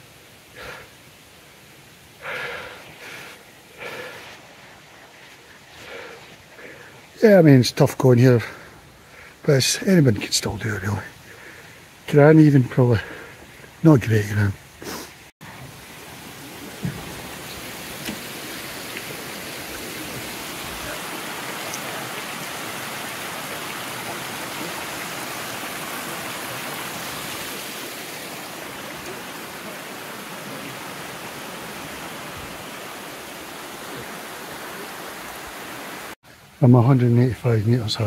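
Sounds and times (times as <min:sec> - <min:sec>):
stream rushing over boulders: 0:00.0 - 0:38.0.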